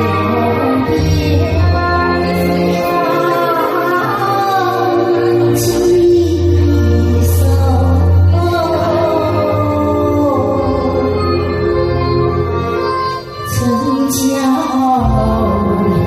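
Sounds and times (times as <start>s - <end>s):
person singing into a microphone: 0.0s - 16.0s.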